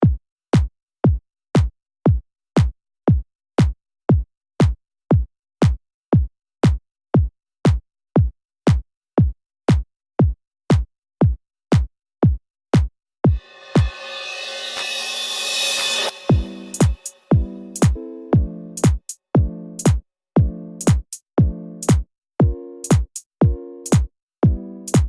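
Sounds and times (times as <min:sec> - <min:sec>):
electronic kick drum beat: 0:00.0 - 0:14.1, 0:16.0 - 0:25.0.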